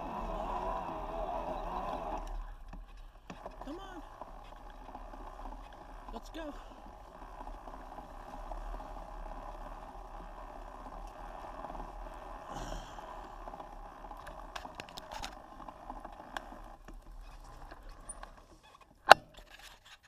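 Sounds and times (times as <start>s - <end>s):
bike tyres rolling on grass: 0.0s - 20.0s.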